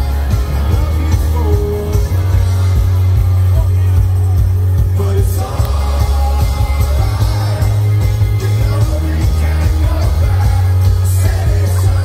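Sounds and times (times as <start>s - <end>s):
person singing: 0.0s - 3.8s, 4.8s - 12.0s
drums: 0.0s - 12.0s
electric guitars: 0.0s - 12.0s
heavy bass: 0.0s - 12.0s.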